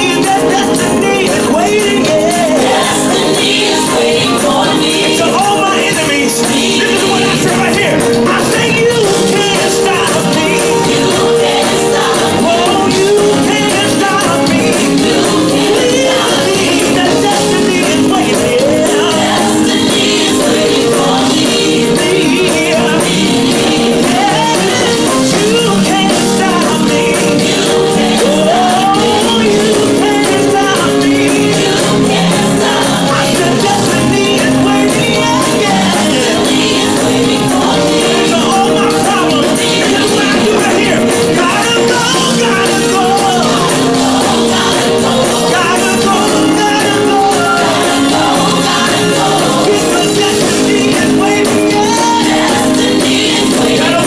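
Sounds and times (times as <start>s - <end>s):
band holding chords: 0.0s - 54.0s
busy high percussion: 0.0s - 54.0s
male singer ad-libbing: 0.0s - 54.0s.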